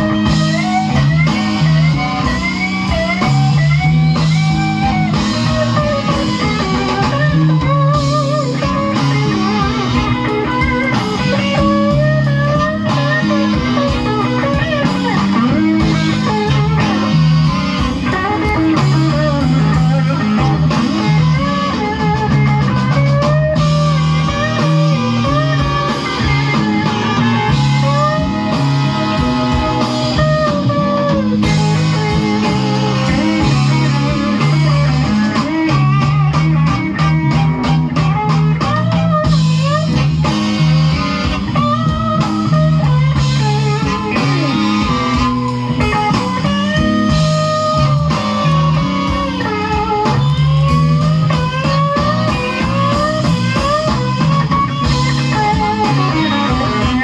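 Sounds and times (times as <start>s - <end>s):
bass guitar: 0.0s - 57.0s
drums: 0.0s - 57.0s
electric guitar solo: 0.0s - 57.0s.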